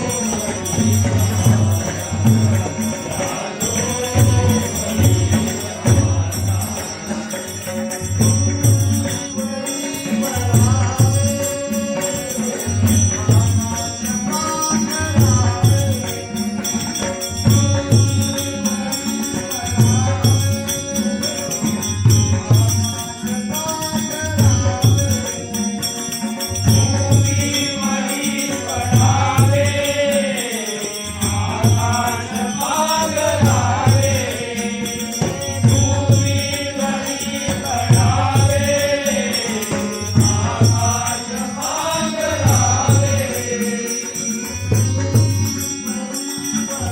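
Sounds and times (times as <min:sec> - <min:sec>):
drum steady beat: 0:00.0 - 0:46.9
man singing devotional song: 0:00.0 - 0:46.9
small cymbals jingling: 0:00.0 - 0:46.9.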